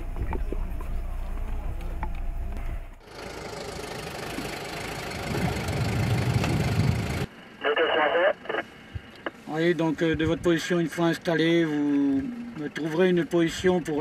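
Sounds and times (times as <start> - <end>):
low engine rumble: 0.0 - 7.8, 8.4 - 14.0.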